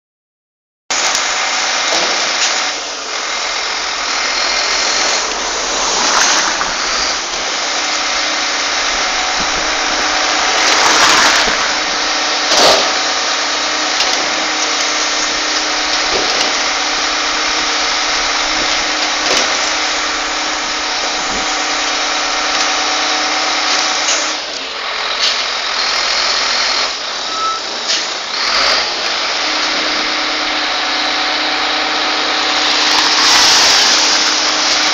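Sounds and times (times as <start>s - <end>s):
loud rushing noise: 0.9s - 34.9s
vehicle engine idling: 2.6s - 34.9s.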